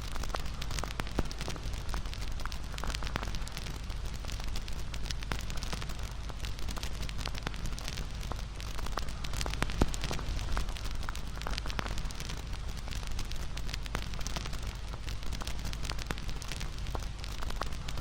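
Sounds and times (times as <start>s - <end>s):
campfire crackling: 0.0s - 18.0s
hiss of flames: 0.0s - 18.0s.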